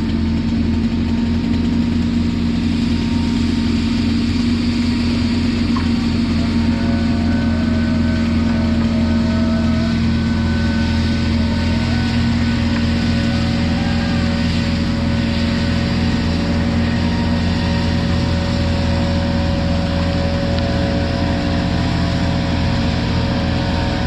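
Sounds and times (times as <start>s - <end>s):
heavy equipment engine running: 0.0s - 24.0s
steady whine: 0.0s - 24.0s.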